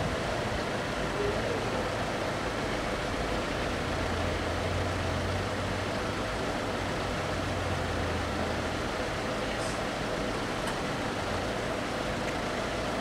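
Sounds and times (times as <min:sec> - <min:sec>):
low engine hum: 0:00.0 - 0:13.0
traffic noise: 0:00.0 - 0:13.0.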